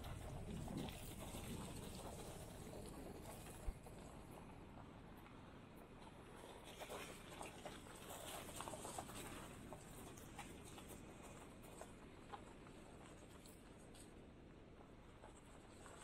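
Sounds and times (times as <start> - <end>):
gravel crunching under tyres: 0.0 - 16.0.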